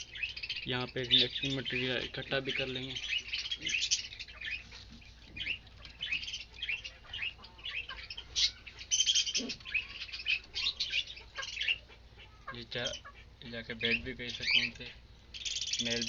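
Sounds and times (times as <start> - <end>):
small birds chirping rapidly: 0.0 - 16.0.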